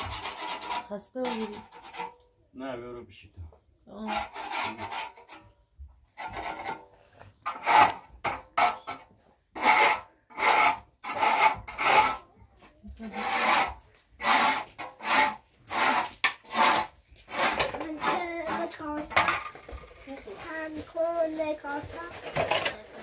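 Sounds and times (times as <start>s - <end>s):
rasping scraping strokes: 0.0s - 2.2s, 4.0s - 12.3s, 13.0s - 23.0s.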